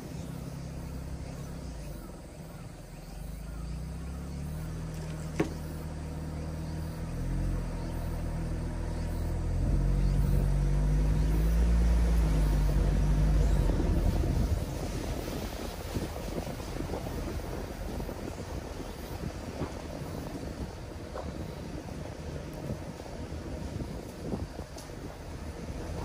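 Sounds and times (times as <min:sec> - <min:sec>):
diesel van engine droning: 0:00.0 - 0:26.0.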